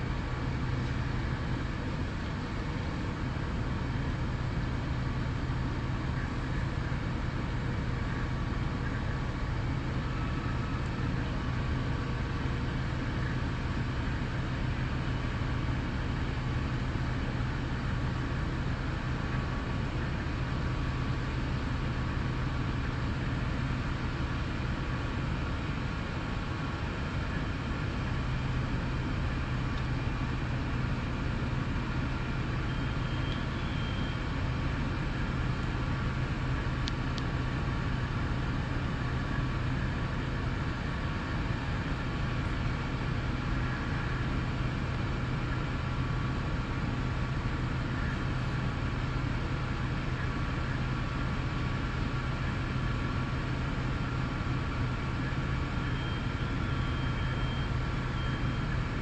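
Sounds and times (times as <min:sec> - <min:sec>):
large vehicle engines idling: 0:00.0 - 0:59.0.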